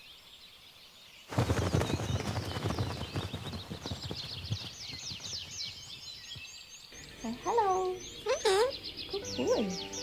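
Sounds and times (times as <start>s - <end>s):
pet bird chirping: 1.3s - 10.0s.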